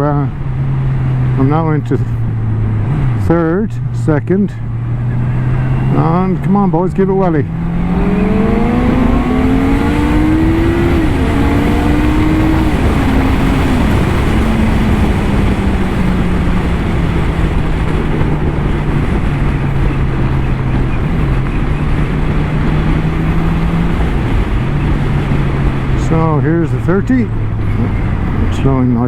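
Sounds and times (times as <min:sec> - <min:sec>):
motorcycle engine accelerating: 0:00.0 - 0:29.0
wind rush: 0:04.6 - 0:29.0.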